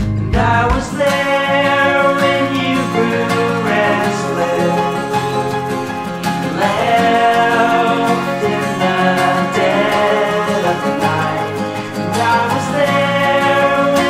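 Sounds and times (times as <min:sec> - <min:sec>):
acoustic country song: 0:00.0 - 0:14.0.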